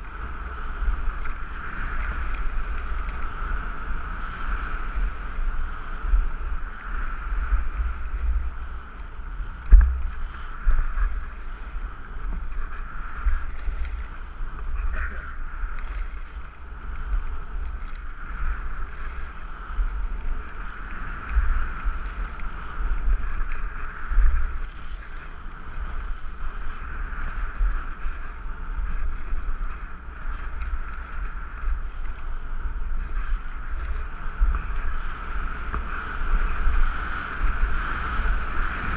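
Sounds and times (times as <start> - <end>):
skis scraping over snow: 0.0 - 38.9
wind buffeting microphone: 0.0 - 38.9.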